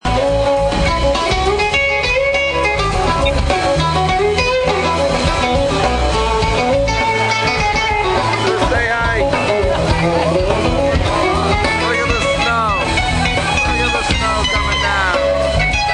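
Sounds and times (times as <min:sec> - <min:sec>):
bass line: 0:00.0 - 0:15.9
guitars playing melody: 0:00.0 - 0:15.9.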